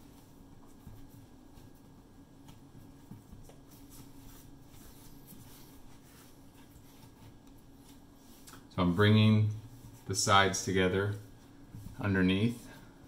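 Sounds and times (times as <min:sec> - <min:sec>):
hands kneading dough: 0:00.0 - 0:13.0
steady low hum: 0:00.0 - 0:13.0.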